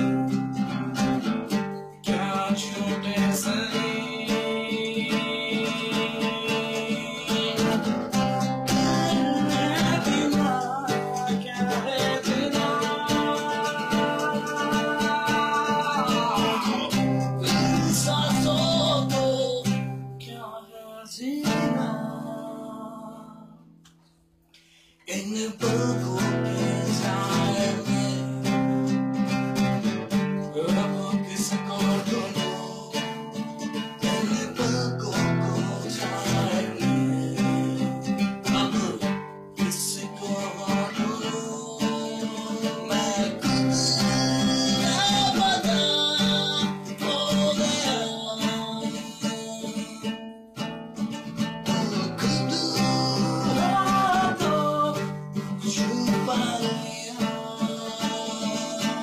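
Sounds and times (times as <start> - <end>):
guitar playing a song: 0.0 - 59.0.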